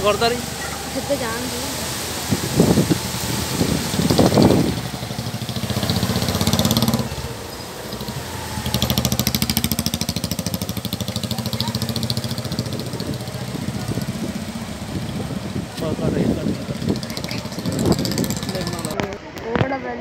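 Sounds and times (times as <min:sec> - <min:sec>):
engine idling: 0:00.0 - 0:19.1
wind buffeting microphone: 0:00.0 - 0:19.7.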